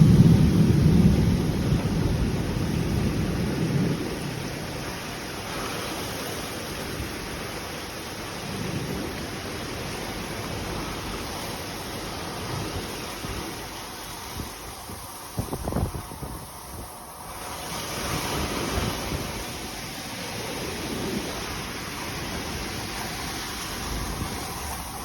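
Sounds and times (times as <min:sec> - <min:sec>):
rain rushing: 0:00.0 - 0:25.0
wind rumble: 0:00.0 - 0:25.0.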